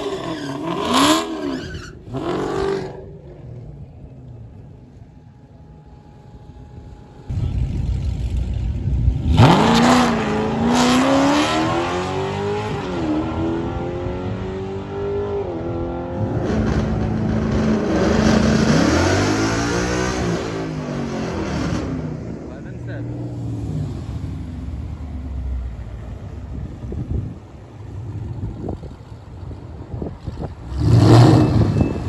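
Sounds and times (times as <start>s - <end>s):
car engine at full throttle: 2.1s - 32.0s.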